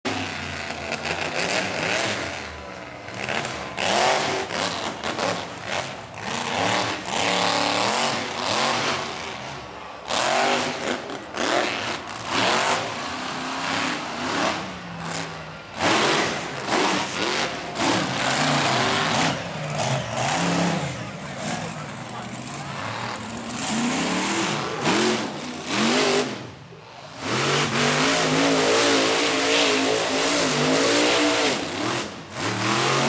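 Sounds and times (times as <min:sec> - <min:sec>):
monster truck engine revving: 0:00.1 - 0:33.0.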